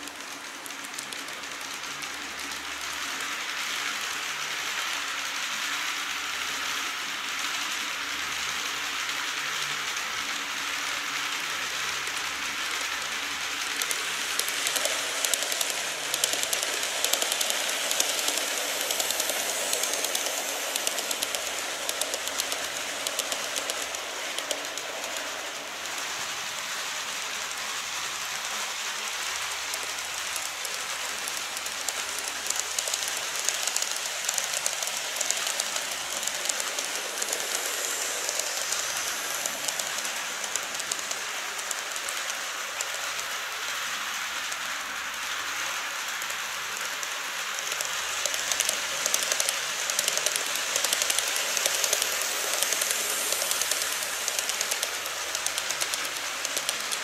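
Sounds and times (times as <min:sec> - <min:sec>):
model train wheels rattling: 0:00.0 - 0:57.0.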